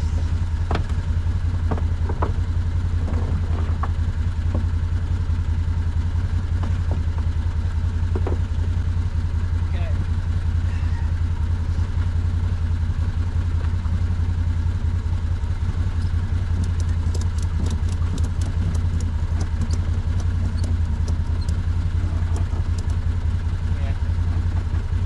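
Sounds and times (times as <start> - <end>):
machine engine humming: 0.0 - 25.0.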